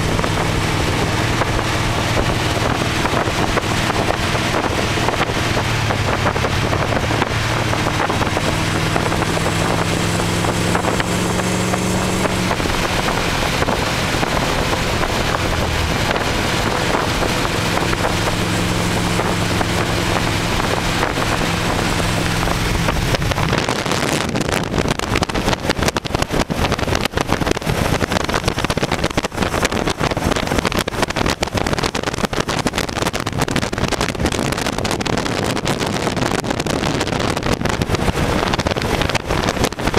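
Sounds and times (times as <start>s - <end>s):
car engine running: 0.0s - 39.9s
wind buffeting microphone: 0.0s - 39.9s.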